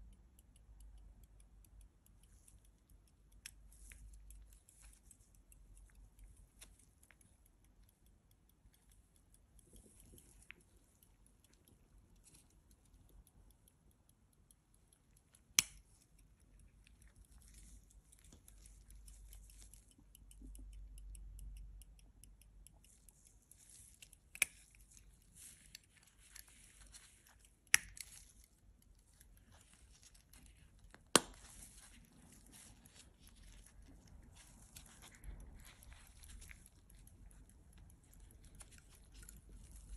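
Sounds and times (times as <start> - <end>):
pocket watch ticking: 0.0 - 39.9.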